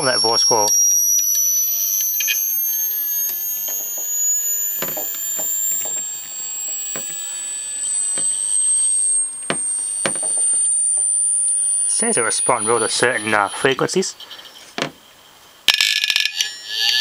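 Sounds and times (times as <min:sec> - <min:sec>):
rising high-pitched tone sweep: 0:00.0 - 0:13.8.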